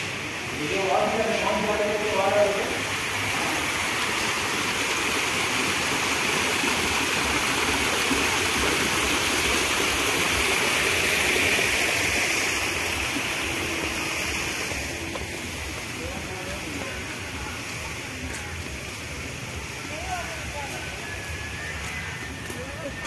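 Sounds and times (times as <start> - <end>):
waterfall rushing splash: 0.0 - 23.0.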